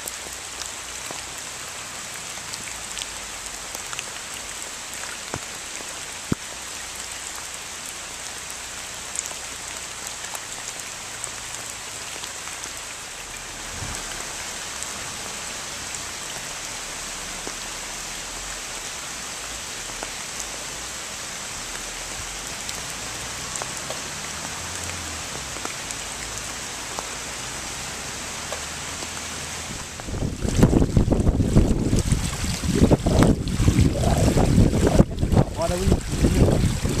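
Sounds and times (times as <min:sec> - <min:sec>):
heavy rain on hard surface: 0:00.0 - 0:37.0.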